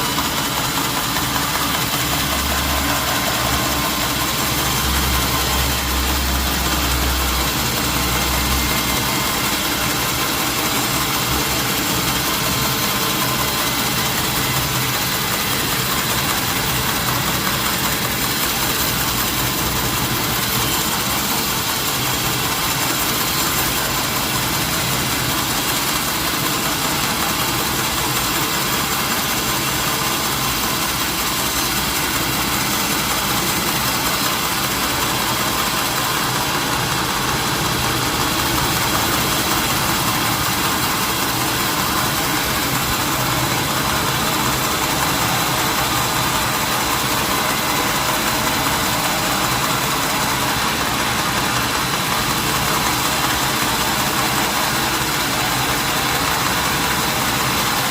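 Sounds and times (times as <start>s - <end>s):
sawmill machinery drone: 0.0s - 57.9s.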